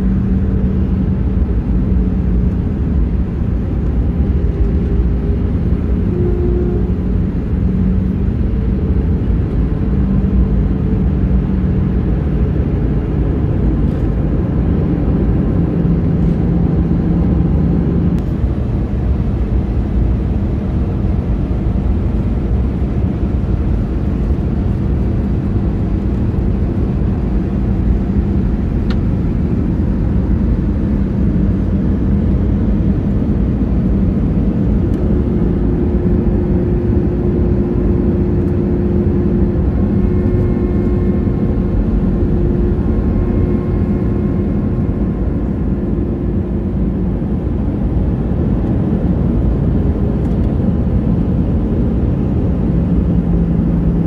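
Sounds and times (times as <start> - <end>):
engine and airflow rush: 0.0 - 54.0
low engine hum: 0.0 - 54.0.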